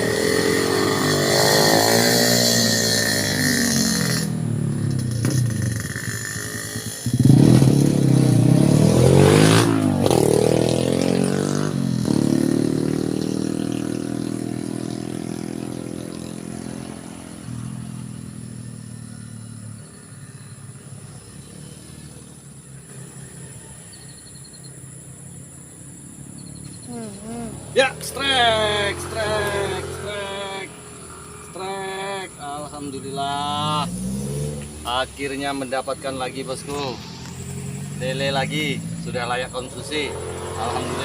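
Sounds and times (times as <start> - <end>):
motorcycle passing and revving: 0.0 - 41.0.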